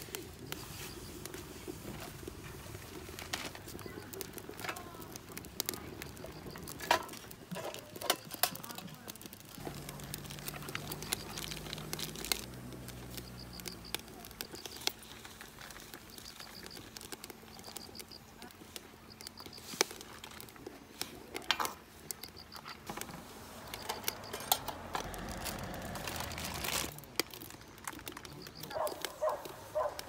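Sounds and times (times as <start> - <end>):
wood fire crackling: 0.0 - 30.0
sharp pops and clicks: 2.2 - 30.0.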